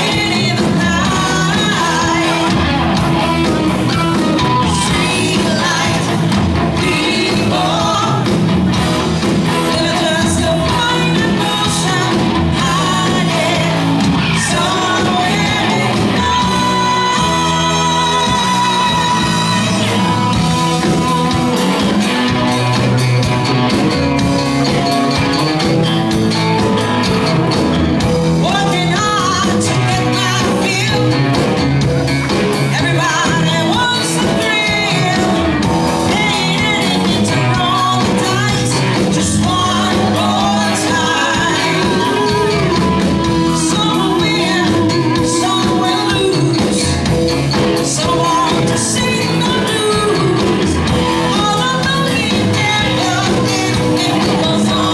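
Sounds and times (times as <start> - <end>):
drums: 0.0 - 54.9
electric guitar: 0.0 - 54.9
keyboard: 0.0 - 54.9
lead singer singing: 0.0 - 54.9.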